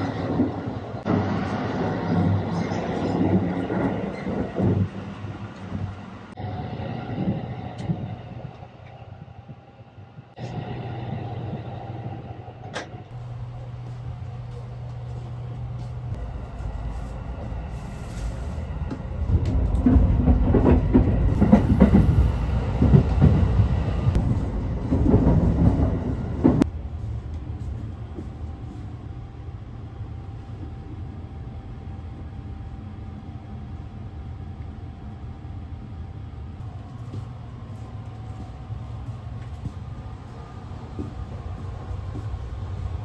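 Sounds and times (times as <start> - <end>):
train interior rumble: 0.0 - 43.0
low rumble and hum: 4.5 - 43.0.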